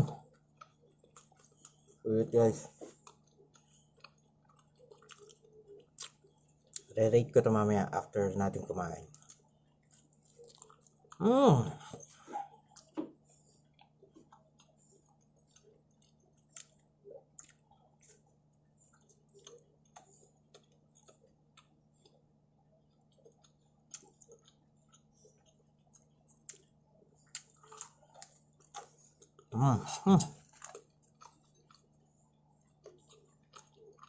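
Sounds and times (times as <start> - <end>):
chewing with small crunches: 0.0 - 34.0
low steady hum: 0.0 - 34.0.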